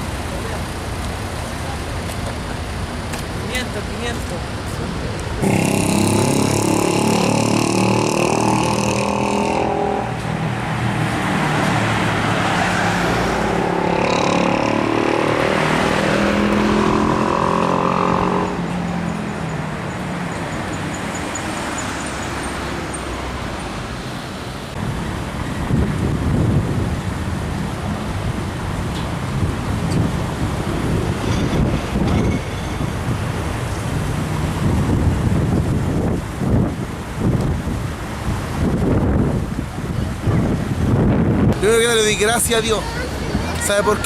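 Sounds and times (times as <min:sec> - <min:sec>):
motor vehicles passing: 0:00.0 - 0:44.0
steady traffic hum: 0:00.0 - 0:44.0.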